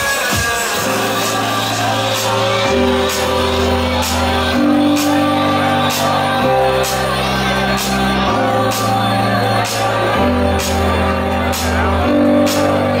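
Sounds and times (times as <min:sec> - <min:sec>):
loud bar music with bass: 0:00.0 - 0:13.0
voices singing and shouting: 0:00.0 - 0:13.0.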